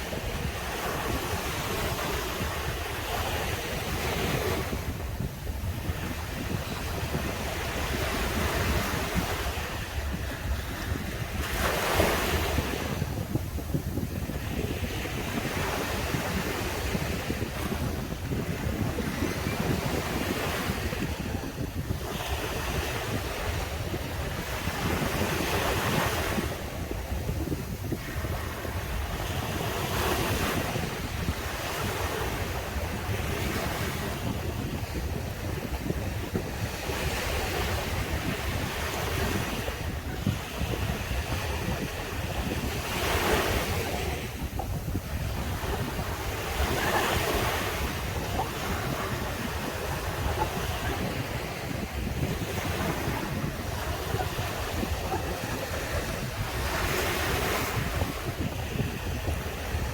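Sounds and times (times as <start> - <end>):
ocean waves breaking on beach: 0.0 - 59.9
wind rumble on microphone: 0.0 - 59.9.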